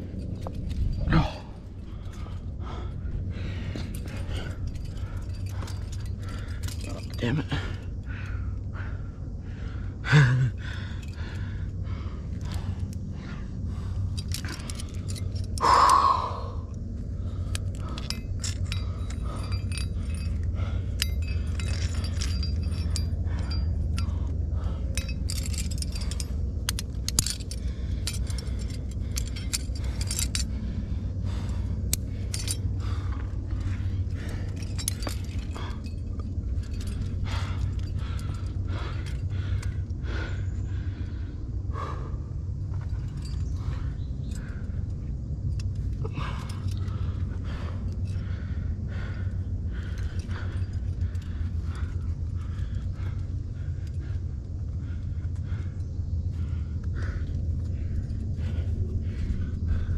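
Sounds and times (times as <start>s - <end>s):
climbing gear jingling and clinking: 0.0s - 59.9s
steady low rumble: 0.0s - 59.9s.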